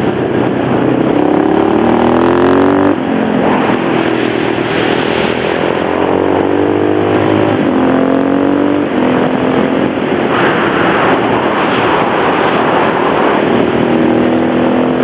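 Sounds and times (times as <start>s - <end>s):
motorcycle engine accelerating: 0.0s - 15.0s
rush of rough noise: 0.0s - 15.0s.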